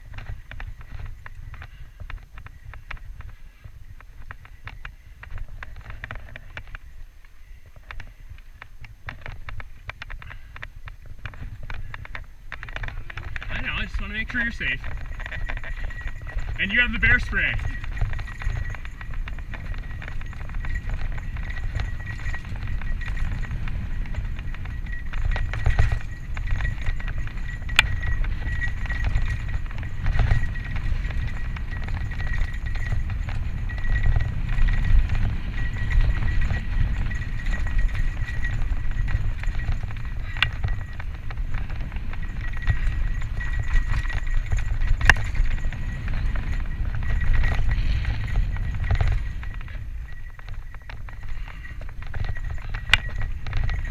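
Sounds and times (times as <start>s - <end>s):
bike rattling over bumps: 0.0s - 53.9s
tyres on dirt: 0.0s - 53.9s
wind rumble on microphone: 0.0s - 53.9s.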